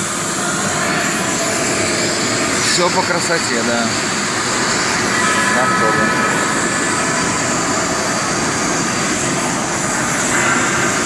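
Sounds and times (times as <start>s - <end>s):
workshop machinery rushing: 0.0s - 11.0s.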